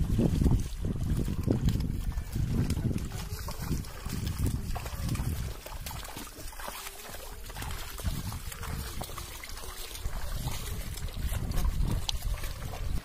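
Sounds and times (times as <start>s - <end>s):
muddy water sloshing and splashing: 0.0s - 13.0s
wind rumbling on microphone: 0.0s - 13.0s.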